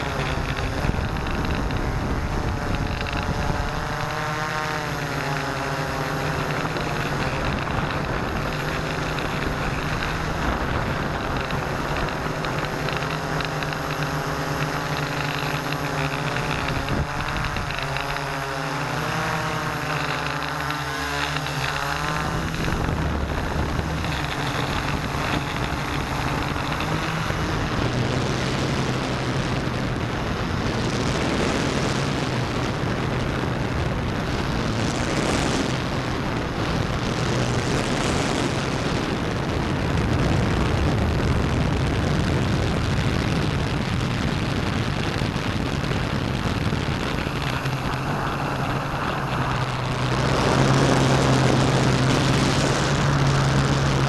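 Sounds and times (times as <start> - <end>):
drone motors humming: 0.0 - 54.0.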